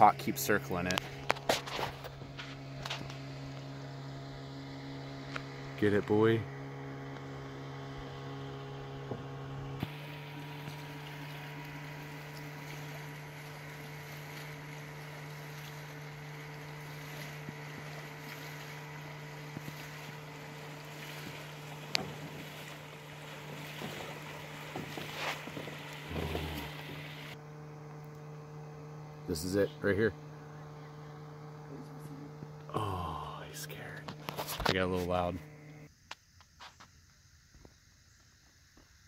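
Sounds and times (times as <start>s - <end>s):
steady low hum: 0.0s - 38.2s.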